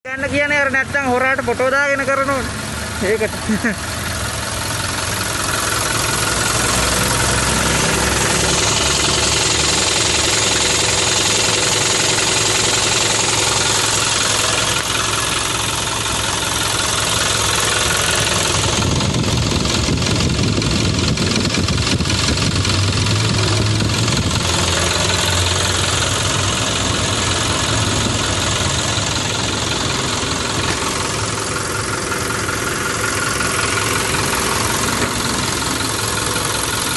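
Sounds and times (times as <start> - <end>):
diesel engine idling: 0.1 - 36.9.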